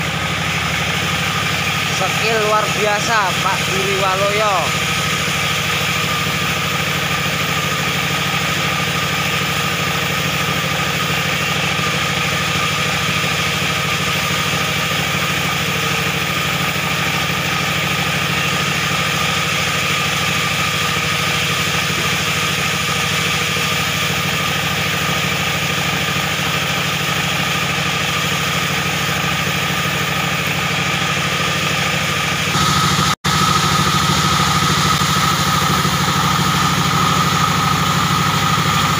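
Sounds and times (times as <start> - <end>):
band saw cutting wood: 0.0 - 38.9
diesel engine running: 0.0 - 38.9.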